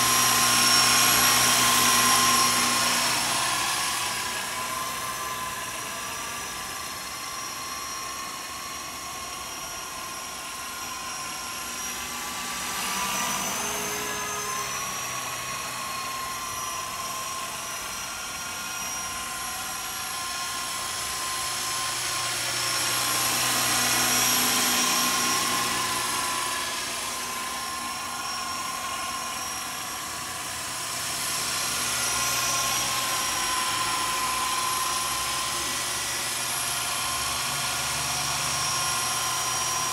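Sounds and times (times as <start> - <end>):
electric motor whine: 0.0 - 39.9
rotor whir: 0.0 - 39.9.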